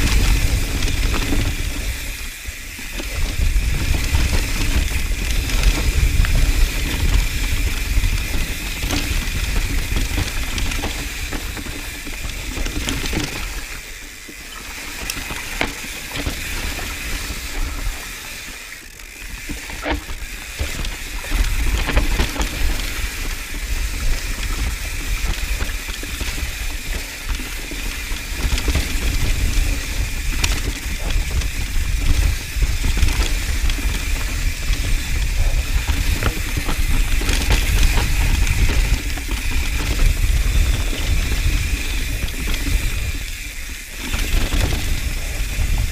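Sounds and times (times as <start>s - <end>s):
wind buffeting microphone: 0.0s - 13.8s, 19.8s - 45.9s
bike rattling over bumps: 0.0s - 45.9s
tyres crunching and skidding on dirt: 0.0s - 45.9s.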